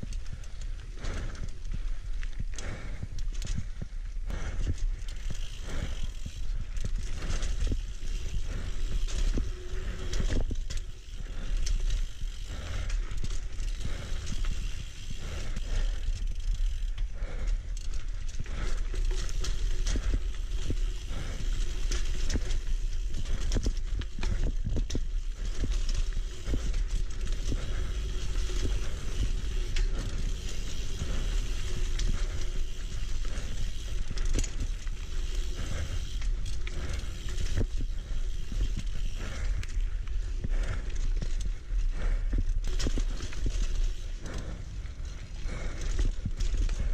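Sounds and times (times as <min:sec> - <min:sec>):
bike rattling over bumps: 0:00.0 - 0:46.9
bike tyres rolling on dirt trail: 0:00.0 - 0:46.9.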